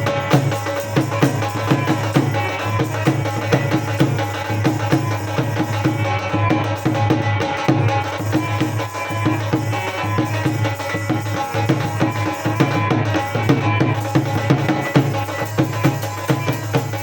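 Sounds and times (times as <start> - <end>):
music with drum rhythm: 0.0 - 17.0.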